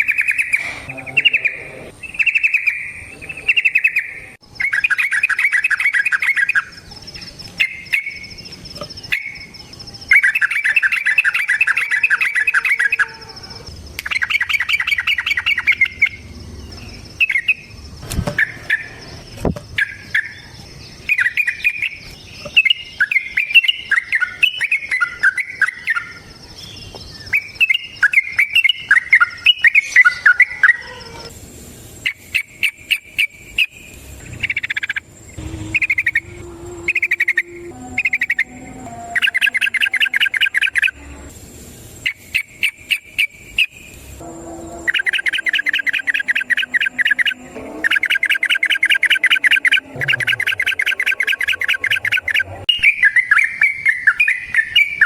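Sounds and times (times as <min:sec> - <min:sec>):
bird singing trills: 0:00.0 - 0:31.3, 0:32.0 - 0:41.3, 0:42.0 - 0:55.0
high insect drone: 0:00.0 - 0:55.0.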